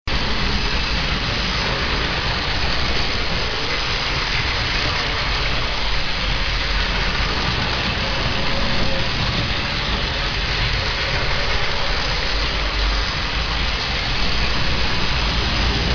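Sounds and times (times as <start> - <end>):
toy train motors whirring: 0.1 - 15.9.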